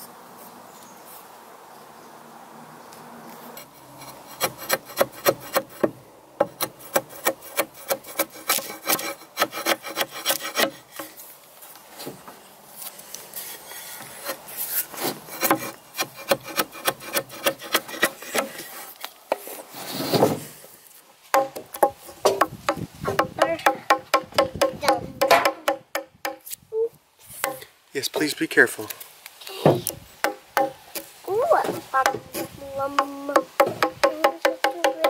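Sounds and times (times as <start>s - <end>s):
hand tool cutting and scraping log: 3.4s - 11.3s, 12.8s - 26.6s, 27.4s - 28.5s, 29.7s - 35.0s.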